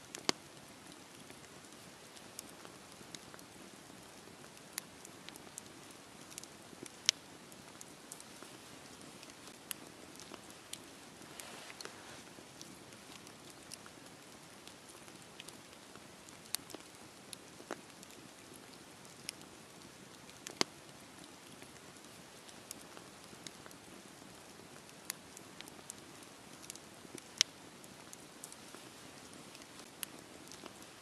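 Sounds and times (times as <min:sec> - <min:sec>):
fire crackling and popping: 0:00.0 - 0:31.0
campfire hissing: 0:00.1 - 0:31.0.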